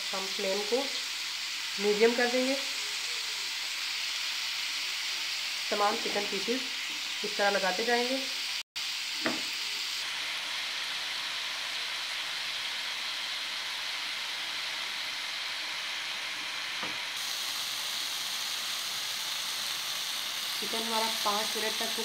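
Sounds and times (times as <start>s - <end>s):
chicken sizzling on hot pan: 0.0s - 22.0s.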